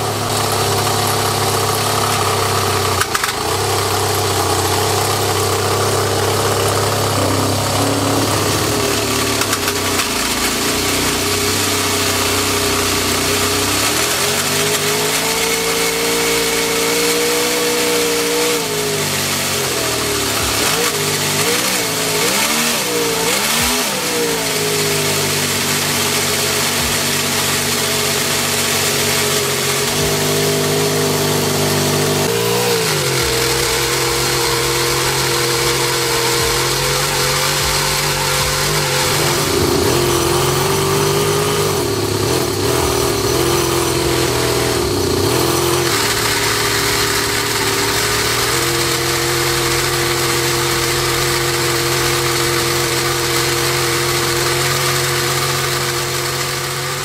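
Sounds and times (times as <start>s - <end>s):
model engine revving: 0.0s - 57.0s.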